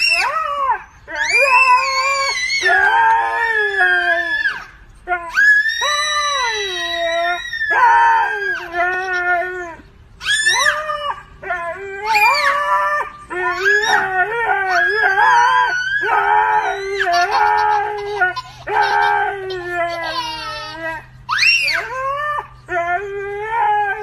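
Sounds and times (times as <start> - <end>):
child howling: 0.0 - 24.0
husky howling: 0.0 - 24.0.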